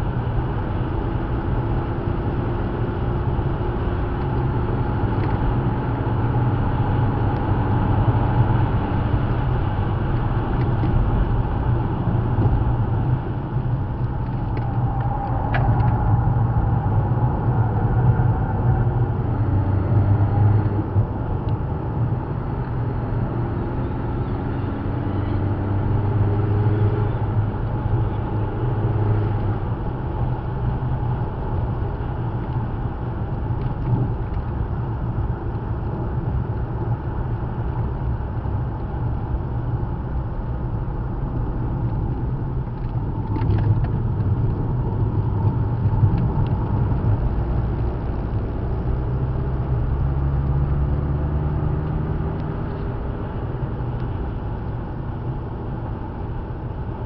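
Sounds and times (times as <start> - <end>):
car engine: 0.0 - 57.0.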